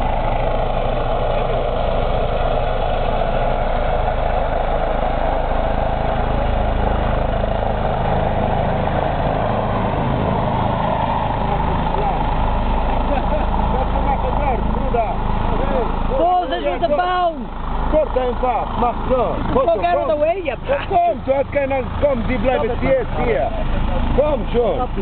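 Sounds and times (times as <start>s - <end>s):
helicopter rotor and turbine: 0.0s - 25.0s.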